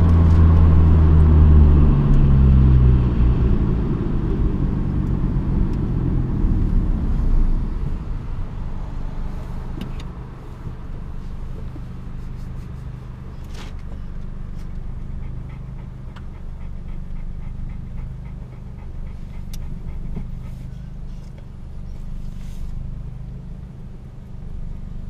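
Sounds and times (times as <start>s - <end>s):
car engine idling: 3.4s - 25.0s.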